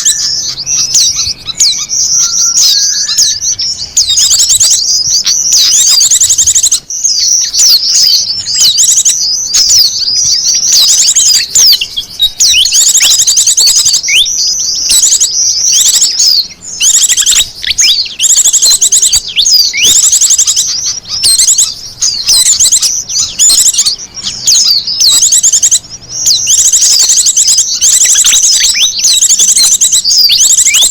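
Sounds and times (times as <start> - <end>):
small birds chirping and trilling: 0.0 - 30.9.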